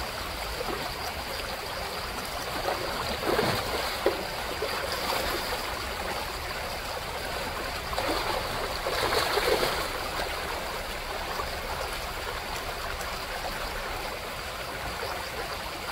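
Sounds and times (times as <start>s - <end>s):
creek flowing over gravel: 0.0s - 15.9s.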